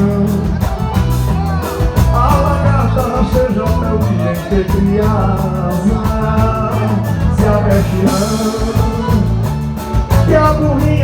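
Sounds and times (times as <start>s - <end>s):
live band playing: 0.0s - 11.0s
person singing: 0.0s - 11.0s.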